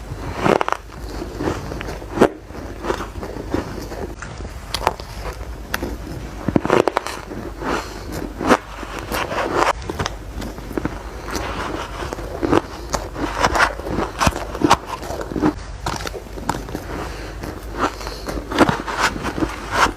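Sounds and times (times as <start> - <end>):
person chewing ice crunching: 0.0 - 19.9.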